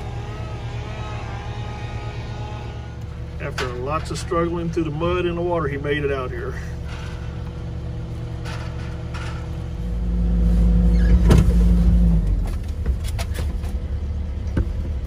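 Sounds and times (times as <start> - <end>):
excavator diesel engine: 0.0 - 15.0.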